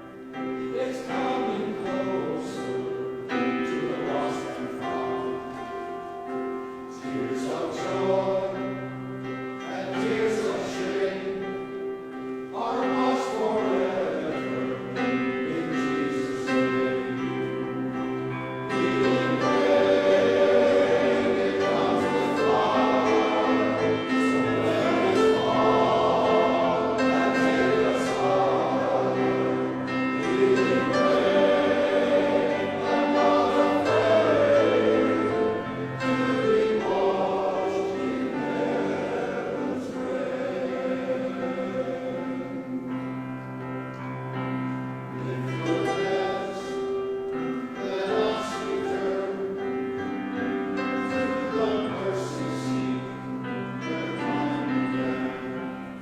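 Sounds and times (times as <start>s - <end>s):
male chorus singing: 0.0s - 6.1s, 6.8s - 44.4s, 45.0s - 56.0s.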